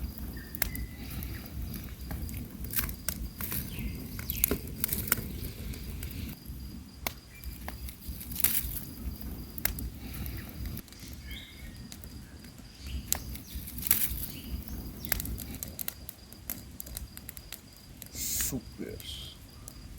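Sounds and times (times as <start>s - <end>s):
bonfire crackling and popping: 0.0s - 19.9s.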